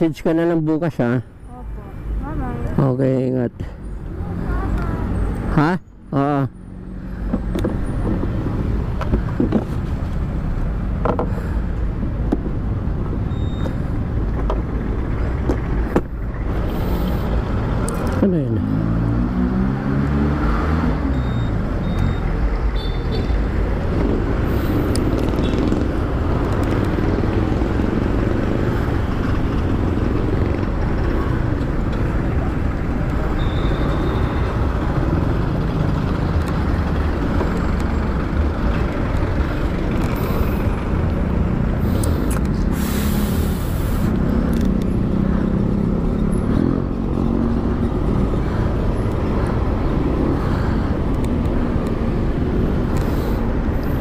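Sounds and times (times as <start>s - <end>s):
road rumble: 0.0s - 54.0s
vehicles passing: 0.0s - 54.0s.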